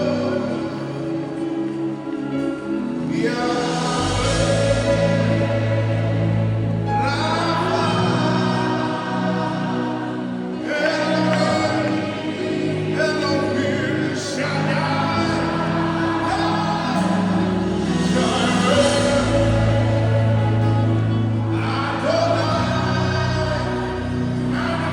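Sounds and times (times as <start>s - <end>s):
gospel choir singing: 0.0s - 24.9s
sustained bass: 0.0s - 24.9s.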